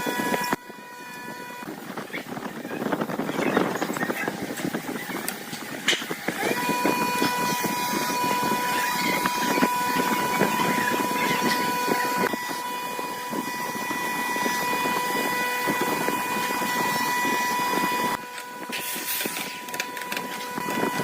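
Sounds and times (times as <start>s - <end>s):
power tool whining: 0.0s - 21.0s.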